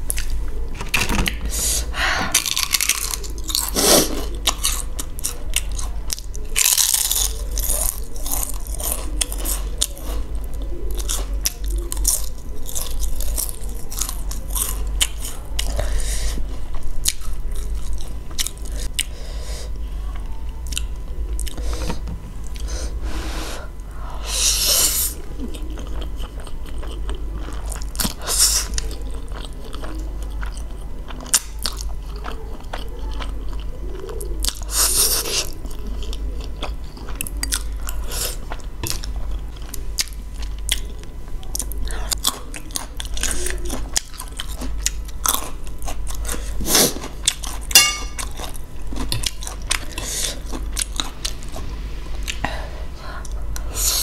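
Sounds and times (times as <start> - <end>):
chewing noodles: 2.3 - 19.1, 25.4 - 52.4.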